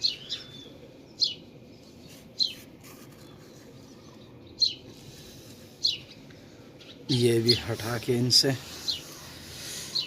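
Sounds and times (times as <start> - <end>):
small bird chirping: 0.0 - 7.8, 8.7 - 10.0.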